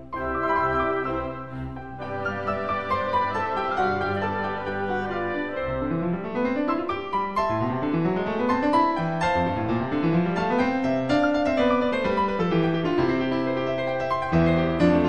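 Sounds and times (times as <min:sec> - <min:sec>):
fast classical solo piano: 0:00.0 - 0:15.0.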